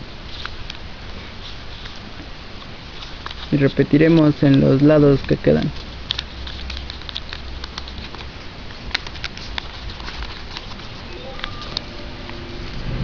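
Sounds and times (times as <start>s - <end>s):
steady background hiss: 0.0s - 13.0s
paper being folded and creased: 0.3s - 11.9s.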